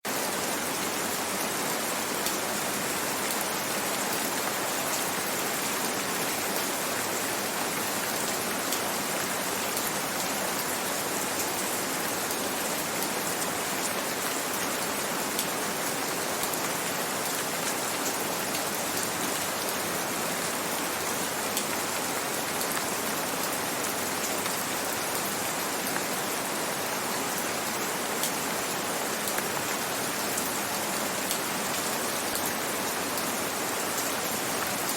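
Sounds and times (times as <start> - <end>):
steady gentle rain: 0.0 - 34.9.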